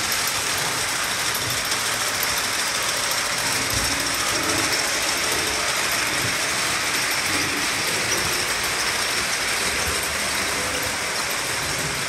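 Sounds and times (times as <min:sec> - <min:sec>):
model train motors whirring: 0:00.0 - 0:12.0
wheels rolling on rails: 0:00.0 - 0:12.0.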